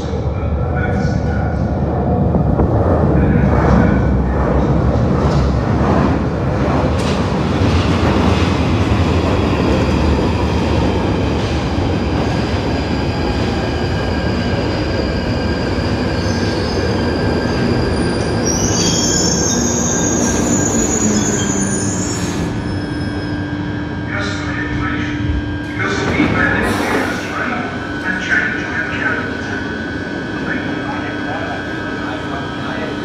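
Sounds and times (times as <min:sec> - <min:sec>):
underground train running: 0:00.0 - 0:33.0.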